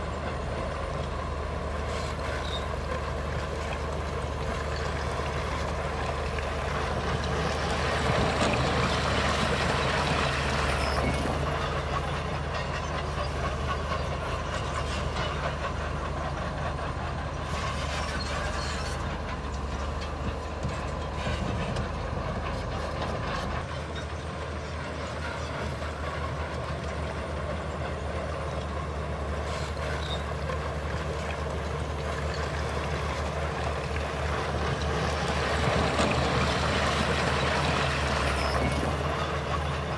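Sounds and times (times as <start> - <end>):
diesel earthmoving machinery running: 0.0 - 39.9.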